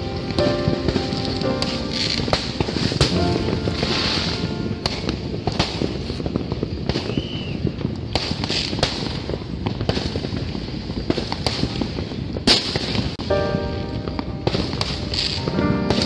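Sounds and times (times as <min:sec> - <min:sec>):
fireworks and firecrackers bangs: 0:00.0 - 0:16.0.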